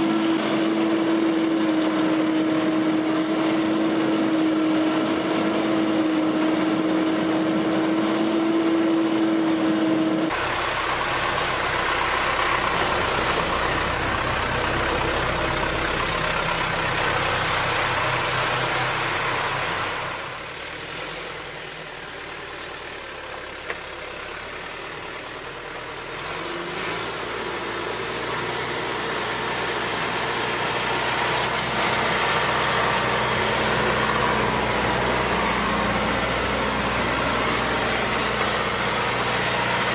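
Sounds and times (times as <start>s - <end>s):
straw bedding blower running: 0.0s - 39.9s
tractor engine running: 0.0s - 39.9s.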